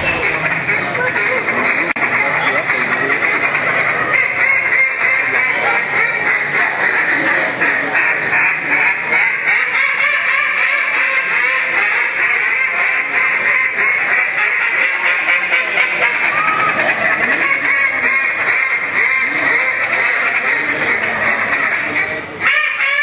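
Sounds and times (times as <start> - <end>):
duck calls quacking: 0.0 - 23.0.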